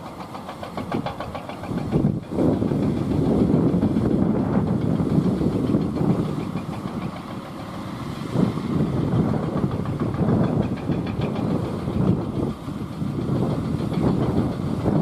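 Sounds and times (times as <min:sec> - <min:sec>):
truck engine pulsing: 0:00.0 - 0:15.0.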